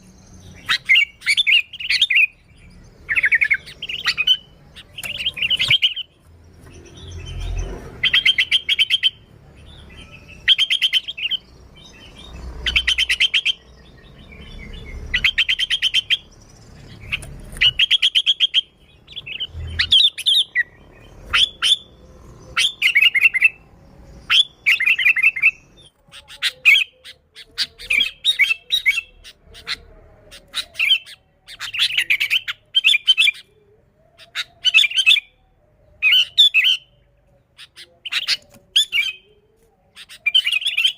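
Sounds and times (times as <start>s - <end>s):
bulbul chattering calls: 0.4s - 2.4s, 3.0s - 23.6s, 24.2s - 35.3s.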